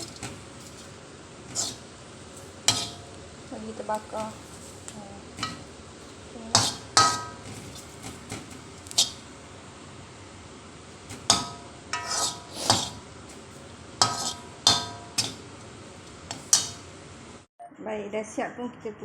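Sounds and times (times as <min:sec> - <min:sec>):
utensil scraping a wok: 0:00.0 - 0:09.4, 0:10.8 - 0:17.4.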